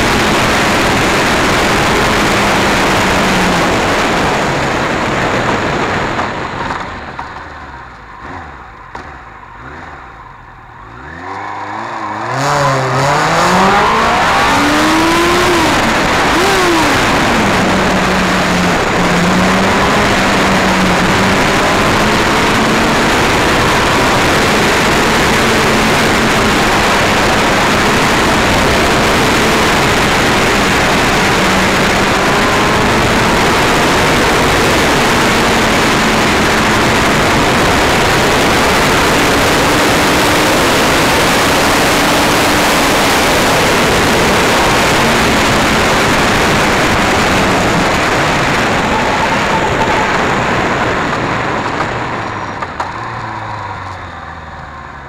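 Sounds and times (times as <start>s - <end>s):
wind rush on microphone: 0.0s - 7.7s, 12.5s - 53.4s
motorcycle engine: 0.0s - 55.0s.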